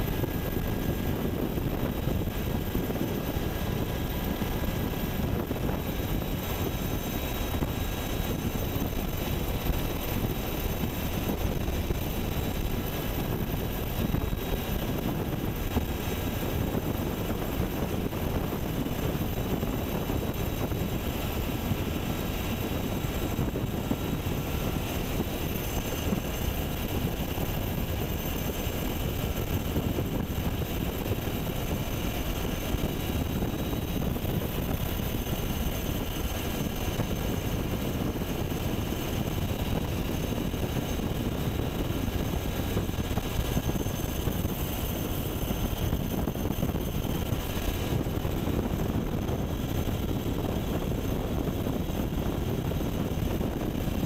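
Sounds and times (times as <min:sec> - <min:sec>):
faint steady whines: 0:00.0 - 0:54.0
helicopter rotor and turbine rumble: 0:00.0 - 0:54.0.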